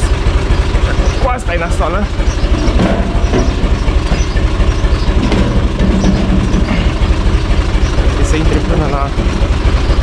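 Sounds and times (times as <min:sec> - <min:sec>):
tractor diesel engine idling: 0:00.0 - 0:10.0.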